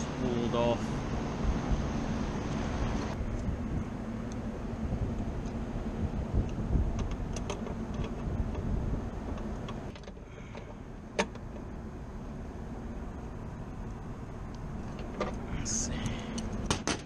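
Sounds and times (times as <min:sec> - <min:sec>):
rooftop machinery rumble: 0:00.0 - 0:17.0
wind: 0:00.0 - 0:17.0.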